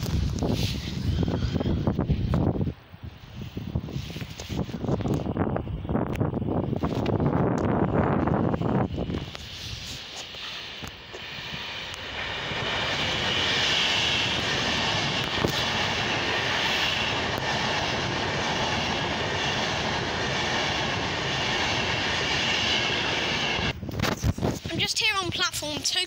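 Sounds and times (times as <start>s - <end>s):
train wheels rushing on rail: 0.0s - 26.0s.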